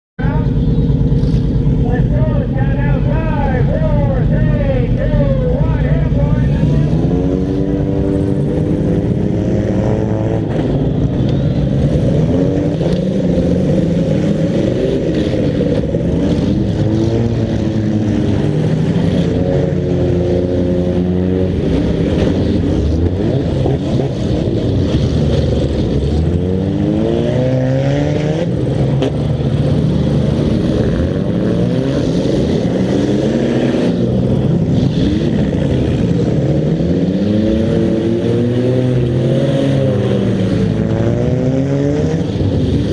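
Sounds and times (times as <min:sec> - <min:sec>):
car engines revving hard: 0:00.2 - 0:42.9.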